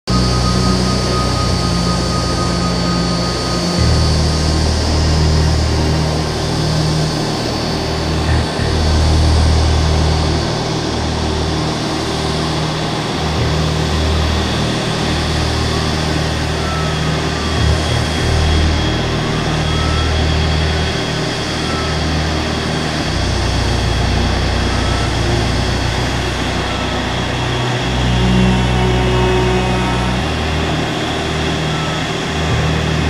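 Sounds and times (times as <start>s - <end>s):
jet engines running at low power: 0.1s - 33.0s.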